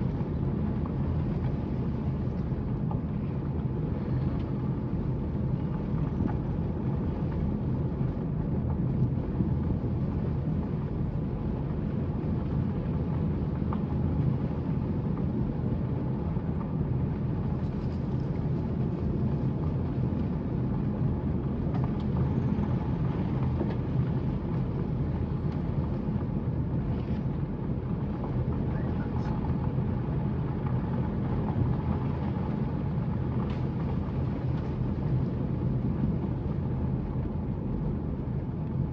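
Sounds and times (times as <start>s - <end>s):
car road and engine noise: 0.0s - 38.9s
faint steady hum: 0.0s - 38.9s.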